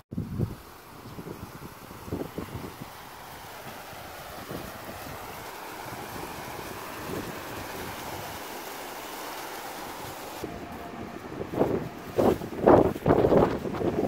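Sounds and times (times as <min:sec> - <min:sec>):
wind on microphone: 0:00.1 - 0:08.5, 0:09.8 - 0:14.0
fountain splashing into basin: 0:00.2 - 0:14.0.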